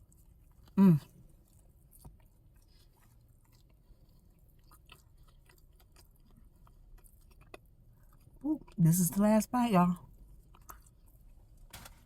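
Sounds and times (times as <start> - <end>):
faint chewing: 0.0 - 8.8, 10.0 - 11.7.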